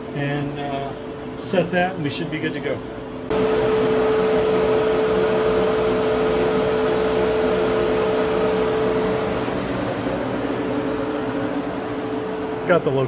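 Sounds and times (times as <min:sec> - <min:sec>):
mill spindle motor hum: 0:00.0 - 0:13.0.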